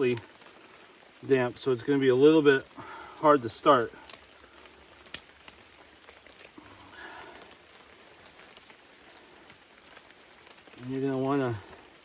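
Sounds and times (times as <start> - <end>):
light rain pattering: 0.0 - 12.0.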